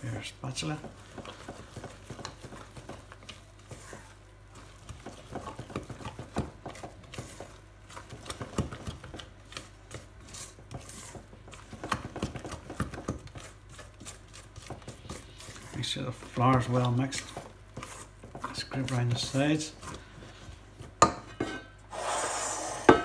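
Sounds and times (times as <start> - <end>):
spatula scraping a bowl: 1.1 - 20.6.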